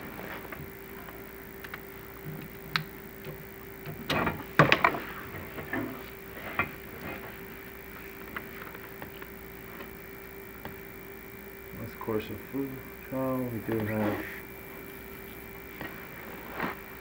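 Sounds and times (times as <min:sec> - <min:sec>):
camera system hum: 0:00.0 - 0:17.0.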